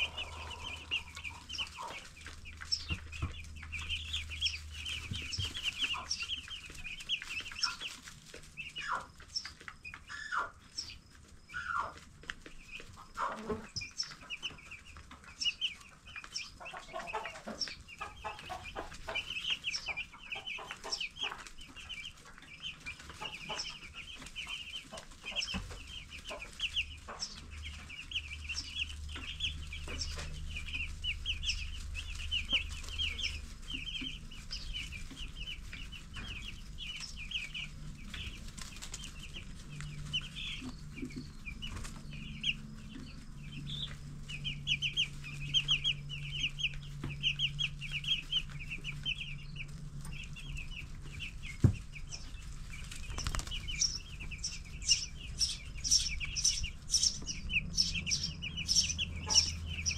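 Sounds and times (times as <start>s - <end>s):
low steady hum: 0.0s - 11.4s, 12.0s - 59.9s
chicks peeping: 0.0s - 59.9s.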